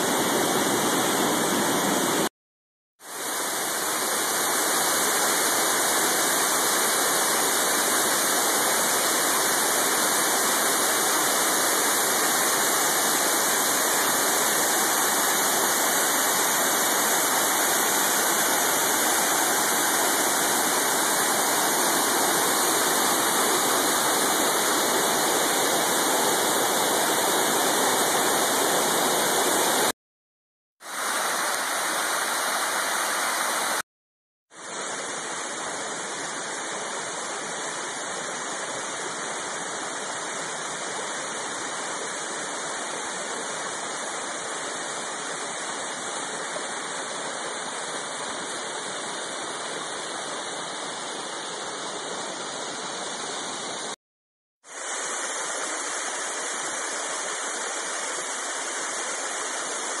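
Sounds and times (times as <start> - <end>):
waterfall rushing: 0.0 - 2.3, 3.1 - 30.0, 30.8 - 33.8, 34.6 - 54.0, 54.7 - 60.0.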